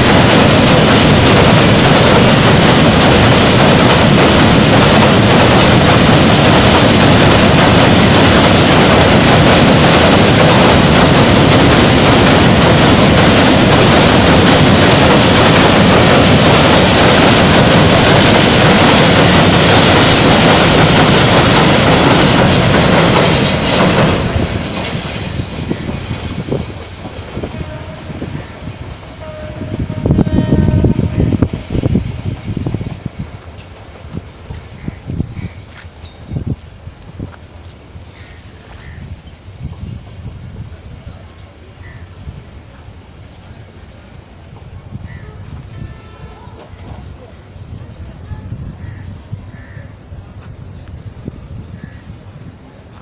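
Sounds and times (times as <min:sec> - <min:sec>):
train wheels on steel bridge: 0:00.0 - 0:53.0.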